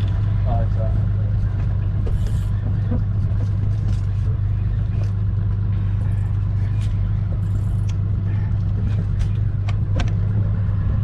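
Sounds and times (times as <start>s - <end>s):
outboard engine droning: 0.0s - 11.0s.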